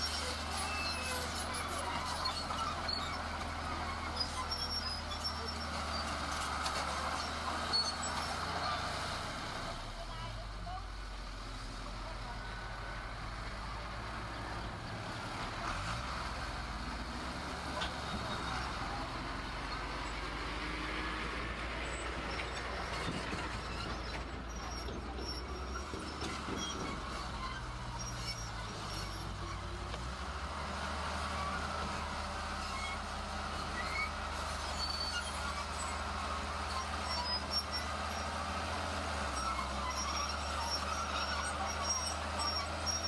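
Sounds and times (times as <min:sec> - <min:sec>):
heavy diesel machinery engine: 0:00.0 - 0:43.0.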